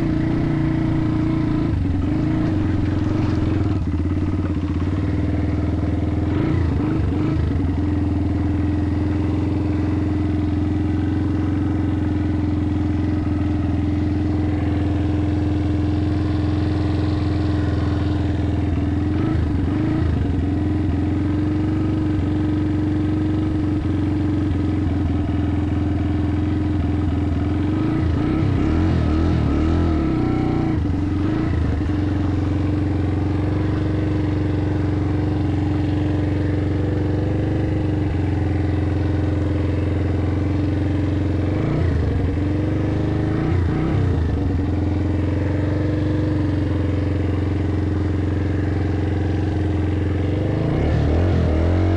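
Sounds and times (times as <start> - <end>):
motorbike engine running: 0.0 - 51.9.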